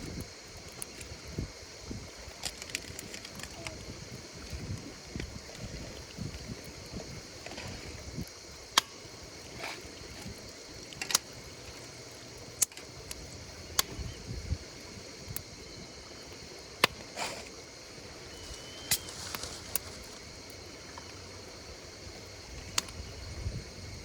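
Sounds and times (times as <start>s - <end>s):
wood fire crackling: 0.0s - 23.7s
insects chirping: 0.0s - 24.0s.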